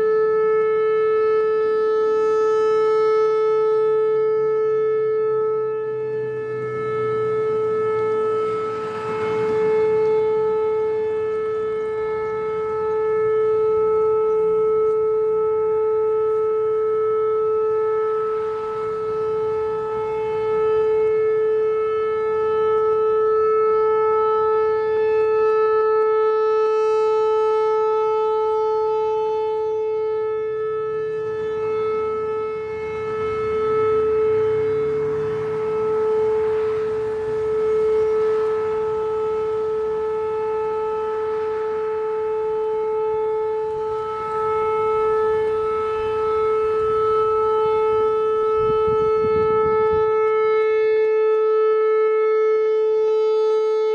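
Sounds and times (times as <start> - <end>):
warning siren steady tone: 0.0 - 53.9.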